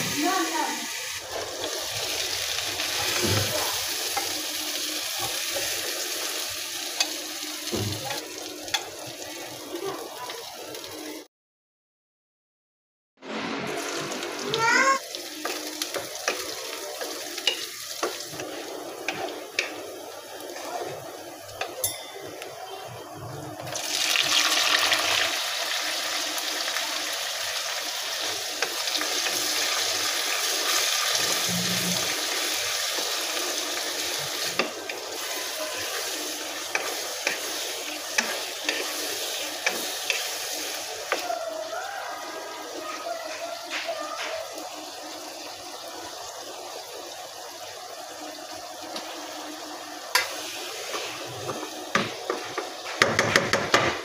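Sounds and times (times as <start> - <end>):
tomatoes sizzling in hot oil: 0.0 - 11.2, 13.4 - 54.0.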